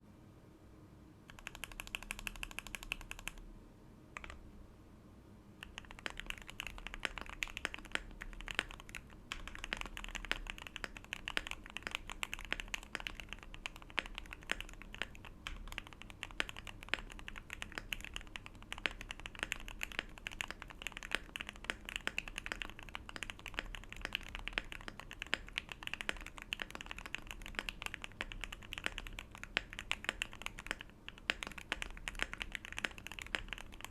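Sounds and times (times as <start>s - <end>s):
fast mechanical keyboard typing: 1.3s - 3.4s, 5.6s - 33.9s.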